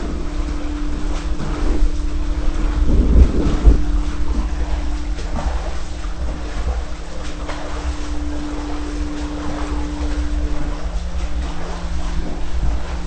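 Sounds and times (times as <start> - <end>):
pump humming: 0.0 - 13.0
swimmer splashing water: 0.0 - 13.0.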